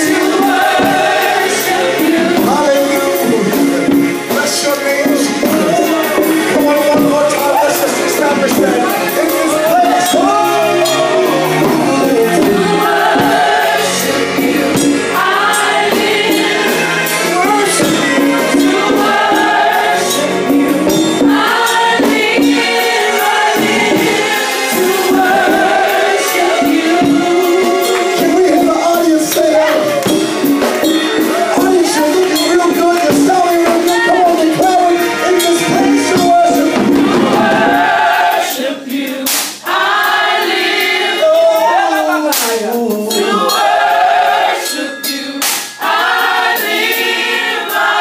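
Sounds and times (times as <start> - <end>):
band playing: 0.0 - 48.0
choir singing: 0.0 - 48.0.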